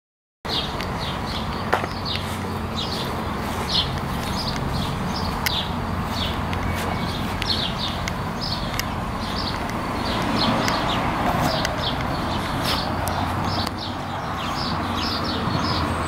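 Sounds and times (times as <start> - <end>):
outdoor background noise: 0.5 - 16.0
small birds chirping: 0.5 - 16.0
sharp ticks: 0.6 - 13.9.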